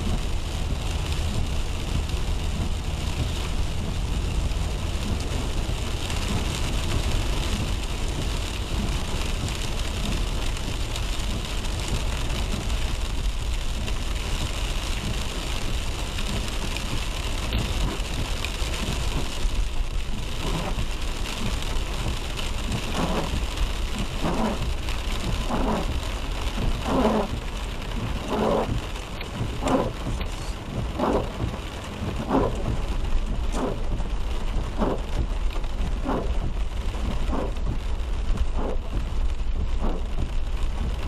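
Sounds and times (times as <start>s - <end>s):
low road rumble: 0.0s - 41.0s
rain and wet tyres hissing: 0.0s - 41.0s.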